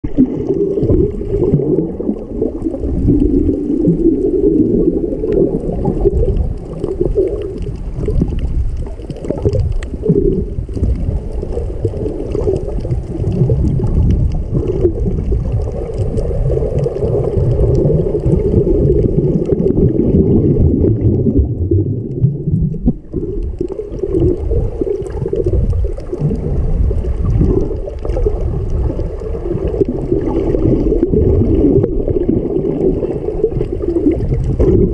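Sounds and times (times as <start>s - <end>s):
muffled underwater rumble and sloshing: 0.0s - 34.9s.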